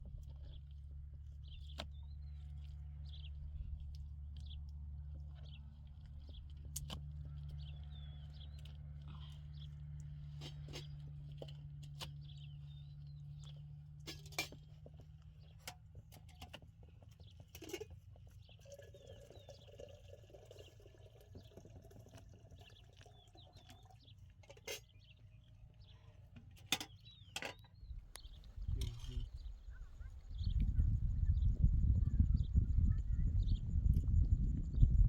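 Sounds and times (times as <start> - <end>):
low steady rumble: 0.0 - 21.4, 22.0 - 35.0
small birds chirping: 0.1 - 13.8, 14.9 - 35.0.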